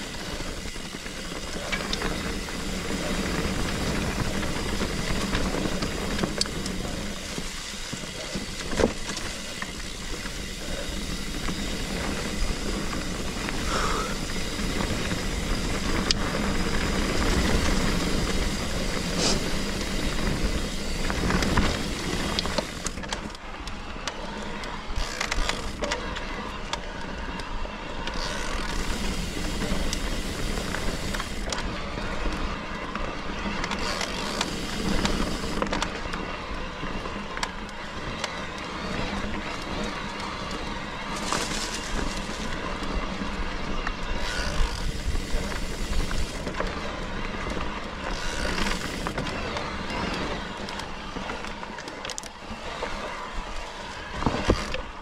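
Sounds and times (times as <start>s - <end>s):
bike clicks and rattles: 0.0s - 55.0s
wind: 0.0s - 55.0s.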